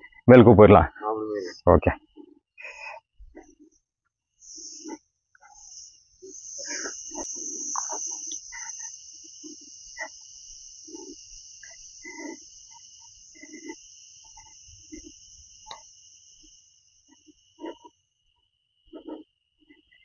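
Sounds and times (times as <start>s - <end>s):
insects chirring drone: 0.0s - 20.0s.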